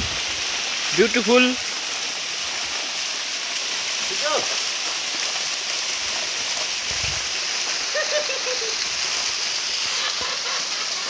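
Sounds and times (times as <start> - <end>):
waterfall splashing into pool: 0.0 - 11.0.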